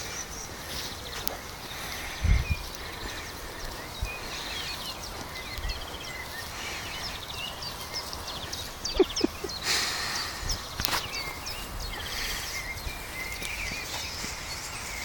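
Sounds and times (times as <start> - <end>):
small birds chirping and trilling: 0.0 - 15.0
steady hiss: 0.0 - 15.0.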